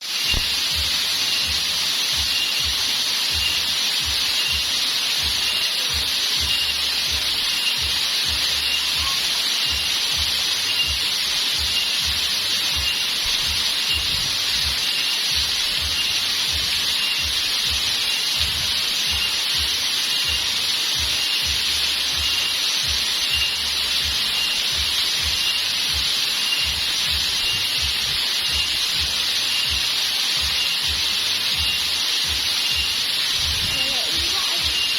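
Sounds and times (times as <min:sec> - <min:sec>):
insects buzzing: 0:00.0 - 0:34.9
insects chirping: 0:00.0 - 0:34.9
water rushing: 0:00.0 - 0:34.9.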